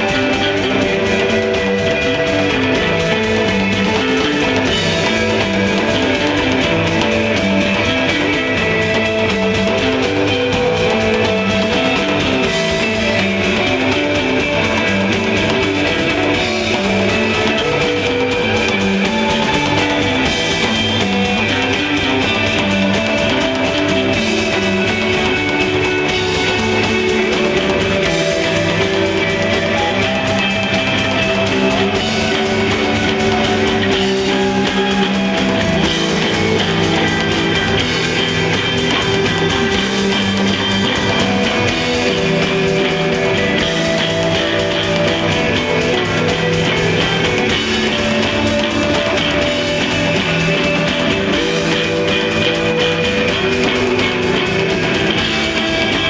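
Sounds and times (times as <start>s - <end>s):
bass: 0.0s - 56.0s
drum kit: 0.0s - 56.0s
electric guitar melody: 0.0s - 56.0s.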